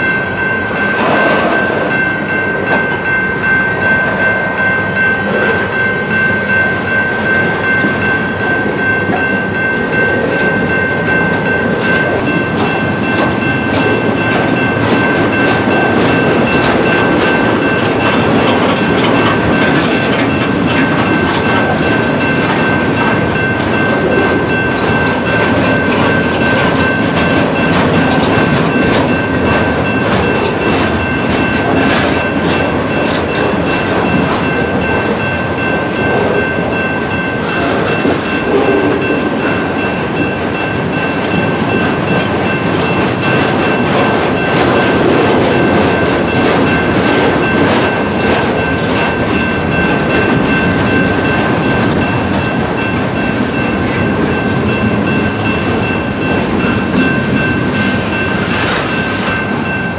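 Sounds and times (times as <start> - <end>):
freight train rumbling past: 0.0 - 59.9
railroad crossing bell ringing: 0.0 - 59.9
wheels clicking over rail joints: 7.2 - 59.9.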